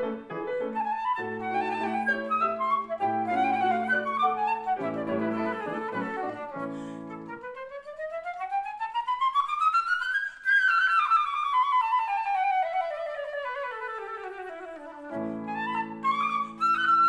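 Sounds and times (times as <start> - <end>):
solo flute fast run: 0.5 - 17.0.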